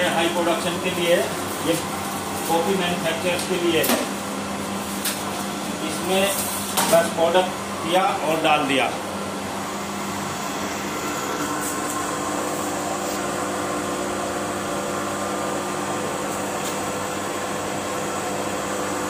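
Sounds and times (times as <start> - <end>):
shrink-wrap machine humming: 0.0 - 19.0.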